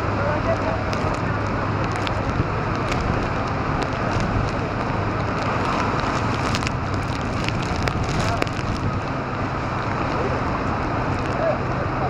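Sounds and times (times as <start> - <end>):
waves splashing over seawall: 0.0 - 12.0
wind buffeting microphone: 0.0 - 12.0
spatters of spray: 0.4 - 11.6.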